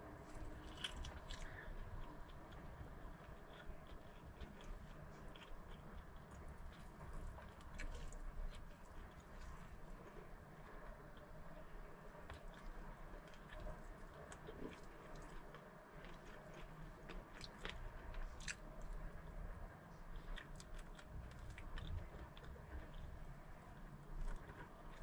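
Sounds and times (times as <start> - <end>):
person chewing food: 0.2 - 19.3, 20.1 - 25.0.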